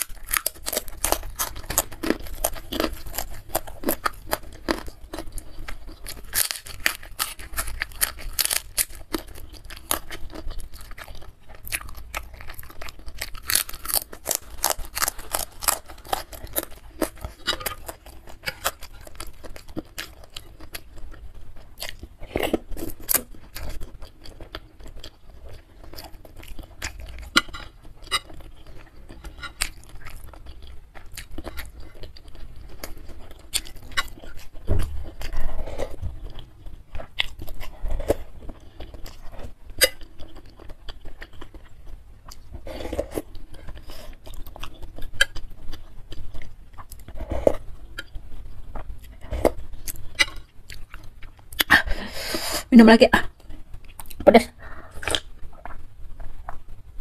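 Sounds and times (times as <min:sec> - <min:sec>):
close chewing: 0:00.0 - 0:52.0.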